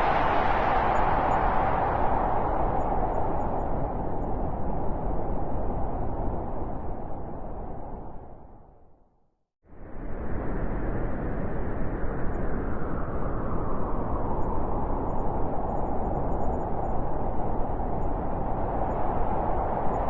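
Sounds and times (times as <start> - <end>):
blizzard wind rushing: 0.0 - 8.8, 9.7 - 20.0.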